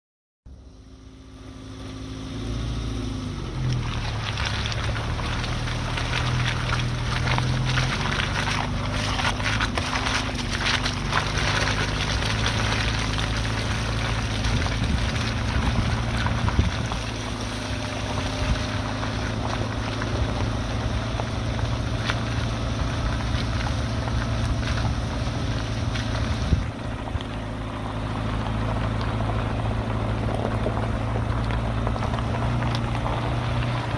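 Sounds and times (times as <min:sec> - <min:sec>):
car engine humming: 0:00.5 - 0:33.9
tyres crunching on gravel: 0:01.0 - 0:33.9.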